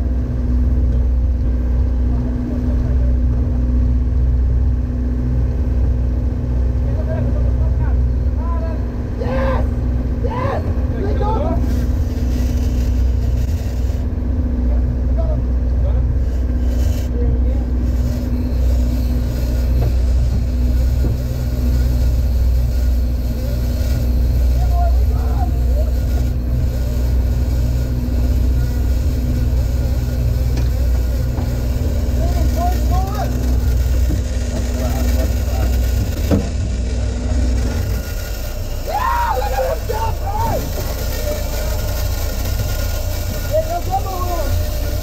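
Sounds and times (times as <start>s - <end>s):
boat engine droning: 0.0s - 45.0s
wind: 0.0s - 45.0s.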